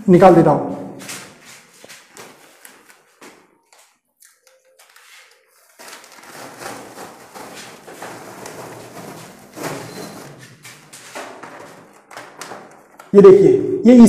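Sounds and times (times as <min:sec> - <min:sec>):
wallpaper peeling off wall: 0:01.0 - 0:13.2
crackling plastic rustle: 0:01.1 - 0:13.2.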